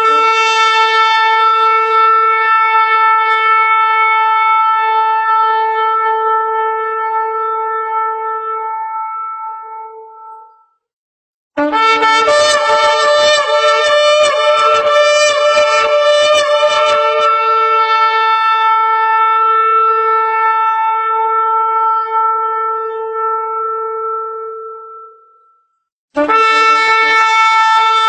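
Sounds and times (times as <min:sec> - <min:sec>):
long shofar blast: 0:00.0 - 0:10.5, 0:11.6 - 0:28.0.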